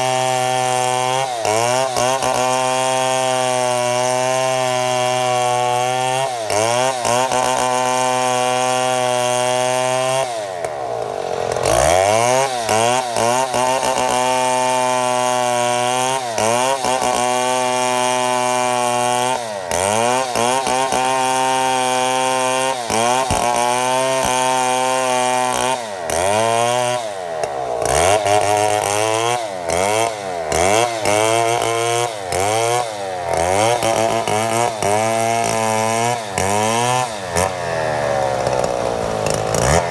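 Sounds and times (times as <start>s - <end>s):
chainsaw mill cutting log: 0.0s - 39.9s.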